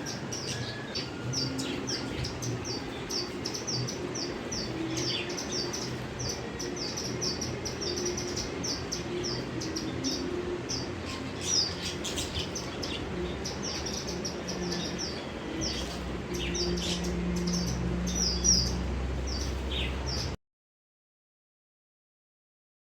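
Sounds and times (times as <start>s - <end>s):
budgerigars chirping: 0.0s - 20.3s
low steady hum: 0.0s - 20.4s.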